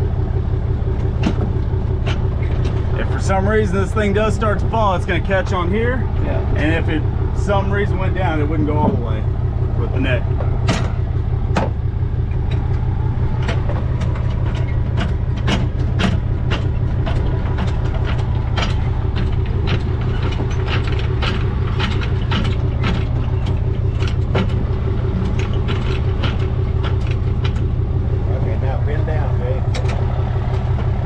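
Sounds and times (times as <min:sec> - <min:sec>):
truck engine idling: 0:00.0 - 0:31.0
sharp metallic clicks and knocks: 0:00.9 - 0:09.3, 0:09.9 - 0:28.3, 0:28.9 - 0:31.0.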